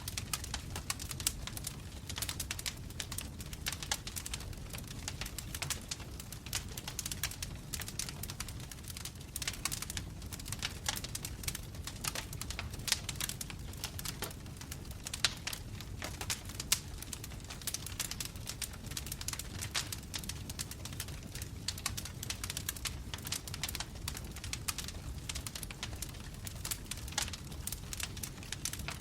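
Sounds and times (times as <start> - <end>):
logs crackling and popping: 0.0 - 29.0.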